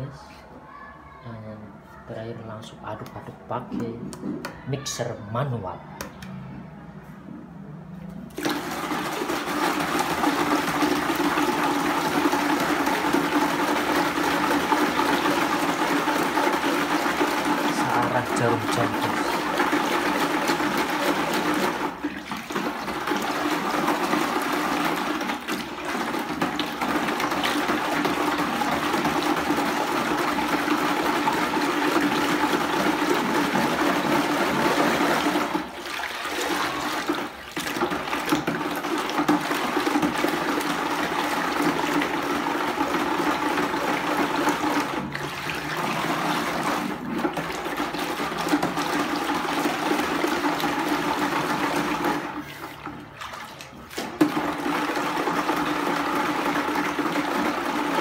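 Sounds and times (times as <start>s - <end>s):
liquid sloshing in a bucket: 8.2s - 58.0s.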